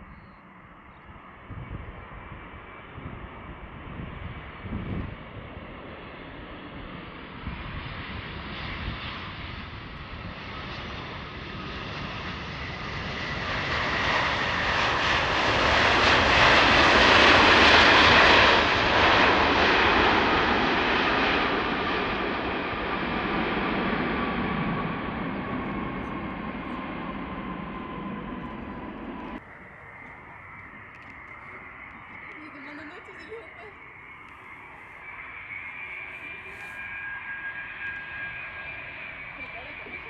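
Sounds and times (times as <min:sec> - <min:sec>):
jet airliner passing overhead: 0:00.0 - 0:40.0.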